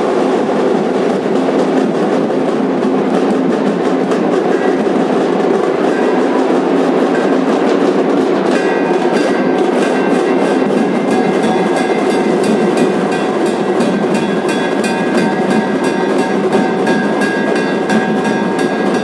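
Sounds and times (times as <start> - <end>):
large crowd din: 0.0 - 19.0
steady high tone: 2.7 - 19.0.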